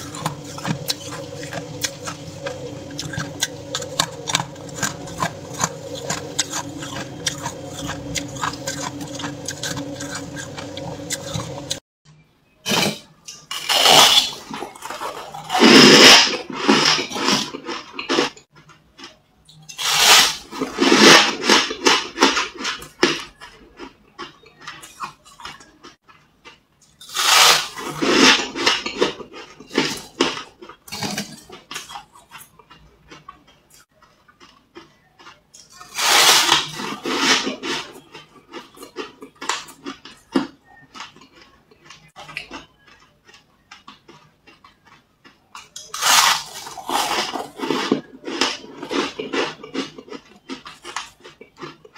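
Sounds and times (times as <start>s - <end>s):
frost crunching when chewed: 0.0s - 11.8s, 12.7s - 51.9s.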